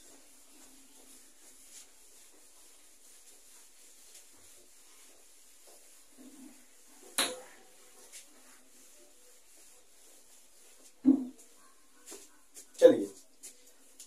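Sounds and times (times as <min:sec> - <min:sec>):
duster rubbing a whiteboard: 0:00.0 - 0:14.0.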